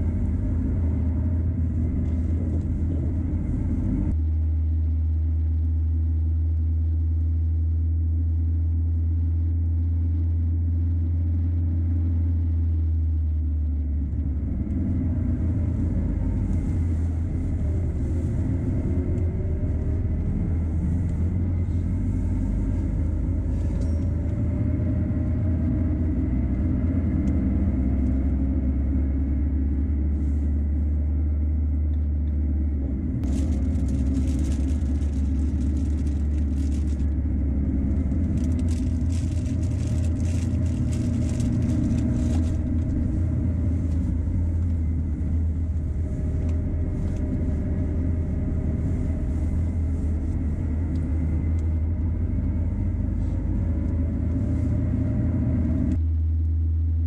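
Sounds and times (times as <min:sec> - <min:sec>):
van engine and road rumble: 0:00.0 - 0:57.0.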